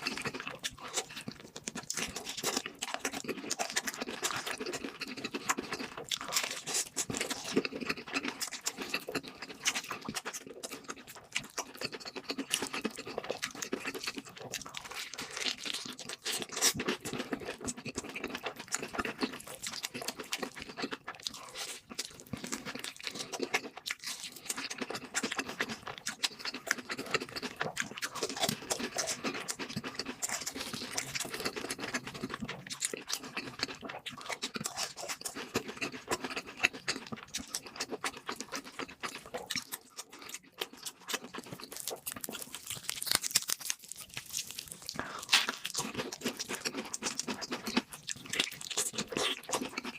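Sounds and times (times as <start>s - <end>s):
chewing crunchy fried food: 0.0s - 49.9s
wet mouth sounds: 0.0s - 49.9s.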